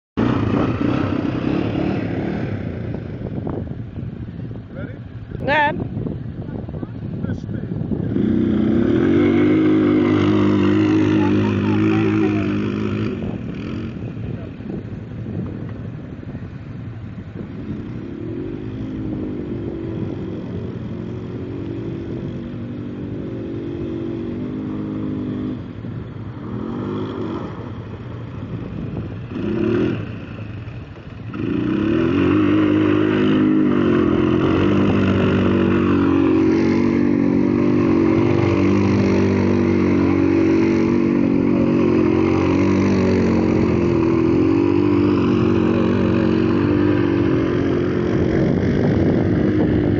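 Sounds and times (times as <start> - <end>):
atv engine revving: 0.2 - 5.8, 7.3 - 49.9.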